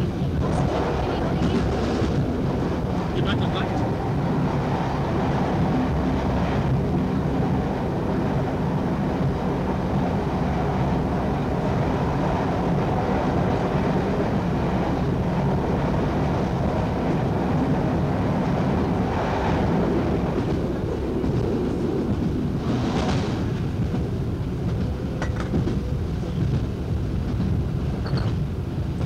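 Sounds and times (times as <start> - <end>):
train engine and wheels droning: 0.0 - 29.0.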